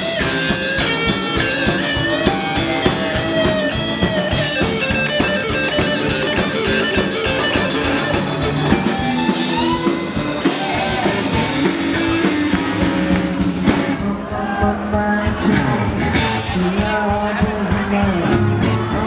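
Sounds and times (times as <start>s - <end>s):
drum kit: 0.0s - 19.0s
electric guitar: 0.0s - 19.0s
hollow-body guitar: 0.0s - 19.0s
live blues-rock band playing: 0.0s - 19.0s.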